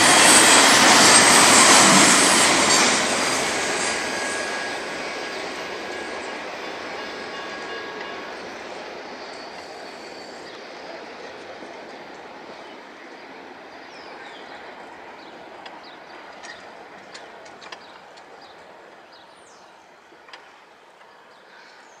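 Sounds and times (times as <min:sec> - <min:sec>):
diesel freight train rumbling past: 0:00.0 - 0:21.9.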